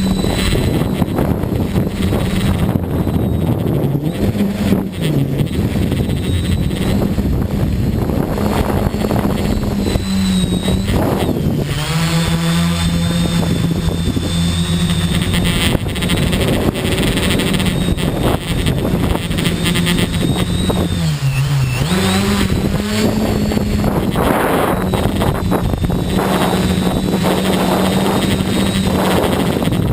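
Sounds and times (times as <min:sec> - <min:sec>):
drone motors buzzing: 0:00.0 - 0:29.9.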